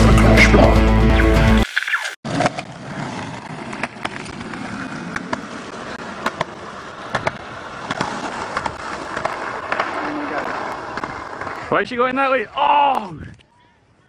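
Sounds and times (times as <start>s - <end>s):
wheels rolling on concrete: 1.6s - 13.0s.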